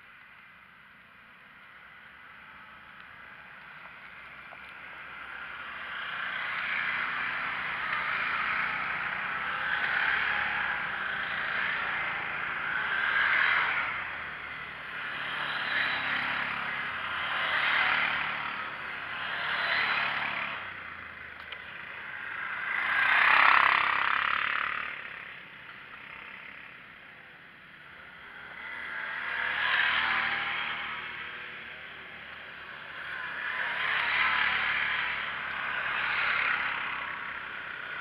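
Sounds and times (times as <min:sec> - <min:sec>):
quad bikes driving past: 0:01.6 - 0:38.0.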